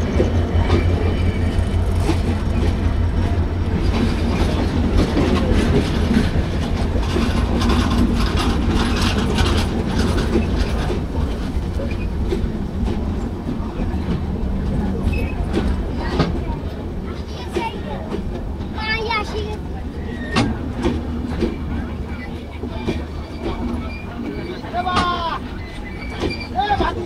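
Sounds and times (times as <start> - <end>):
train coaches rumbling past: 0.0 - 27.0
wheels clicking over rail joints: 0.0 - 27.0.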